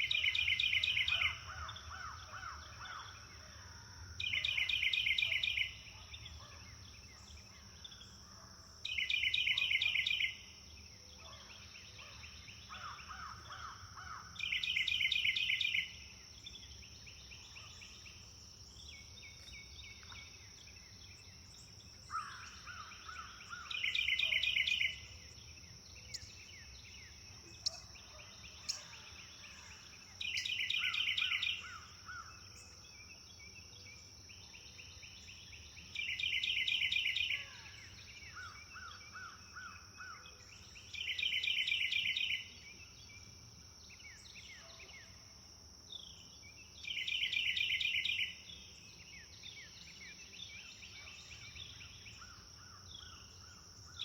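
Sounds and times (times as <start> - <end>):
other birds singing and calling: 0.0 - 54.0.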